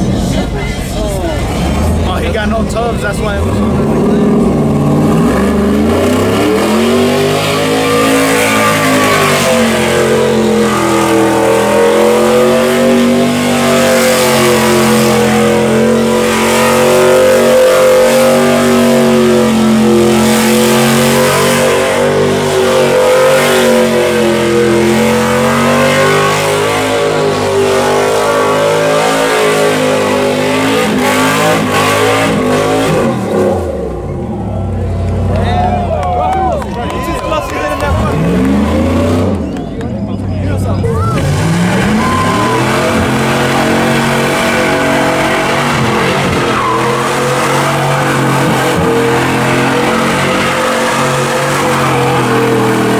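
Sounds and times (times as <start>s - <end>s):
vehicle engine revving: 0.0s - 52.9s.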